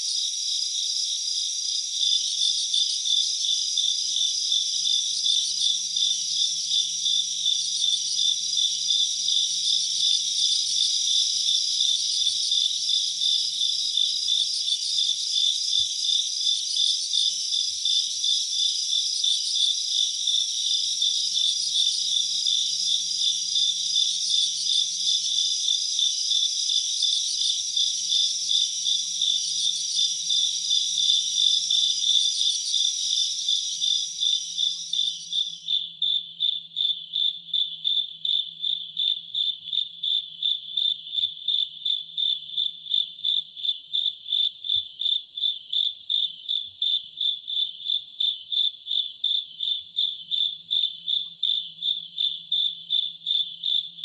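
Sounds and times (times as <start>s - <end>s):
insects chirping chorus: 0.0s - 54.0s
steady pulsed insect chirp: 0.0s - 54.0s.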